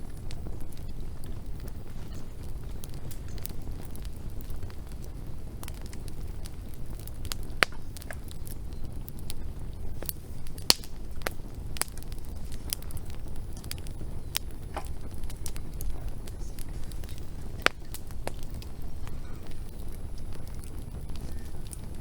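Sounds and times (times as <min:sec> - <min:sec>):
low rumble of flames: 0:00.0 - 0:22.0
wood popping and snapping: 0:00.1 - 0:09.4, 0:10.0 - 0:22.0.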